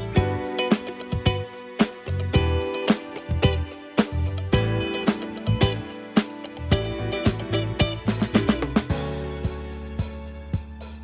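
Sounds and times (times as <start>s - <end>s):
background music with plucked guitar: 0.0s - 11.0s.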